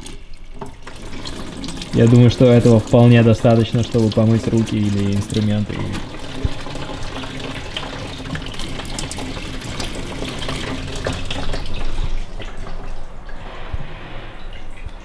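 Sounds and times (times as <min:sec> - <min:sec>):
tap water running into sink: 0:00.0 - 0:13.5.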